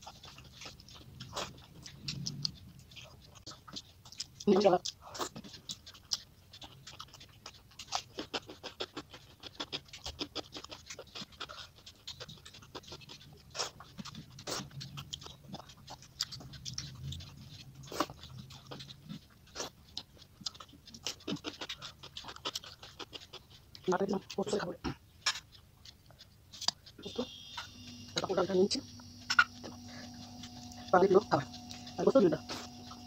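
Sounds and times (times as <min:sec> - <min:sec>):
wet chewing clicks and smacks: 0:00.0 - 0:33.0.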